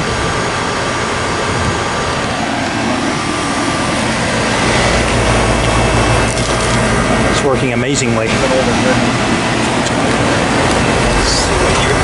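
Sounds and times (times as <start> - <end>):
compressor hum: 0.0 - 12.0
fan rushing air: 0.0 - 12.0.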